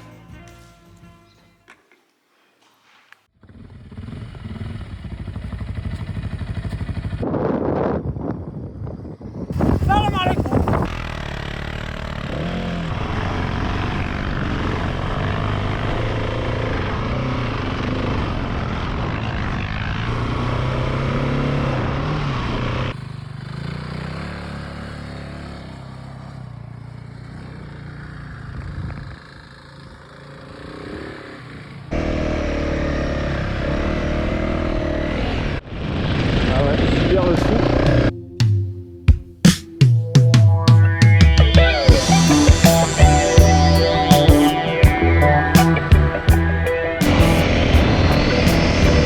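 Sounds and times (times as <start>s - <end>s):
motorcycle engines running: 3.4s - 38.1s, 40.9s - 49.0s.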